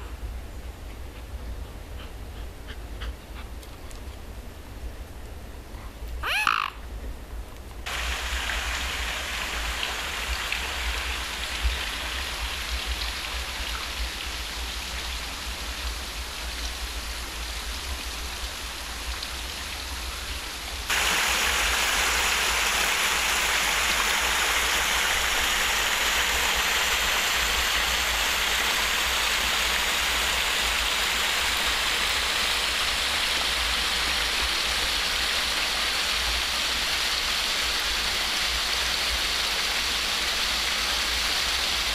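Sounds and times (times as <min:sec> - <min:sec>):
water rushing at lock: 0:07.8 - 0:41.9.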